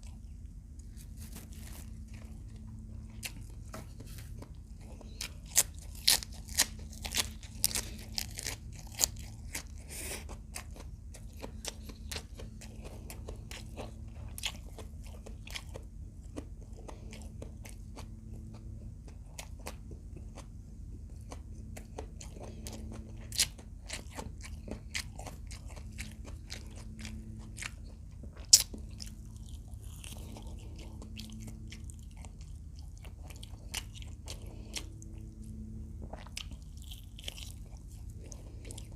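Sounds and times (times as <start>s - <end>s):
crunching bites and chewing: 0.0s - 38.9s
steady low hum: 0.0s - 38.9s.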